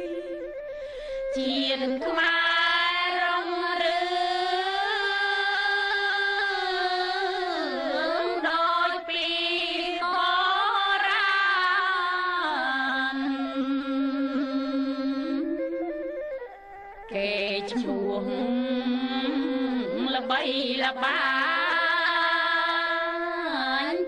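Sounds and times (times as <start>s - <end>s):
person singing with vibrato: 1.4s - 15.6s, 17.2s - 24.0s.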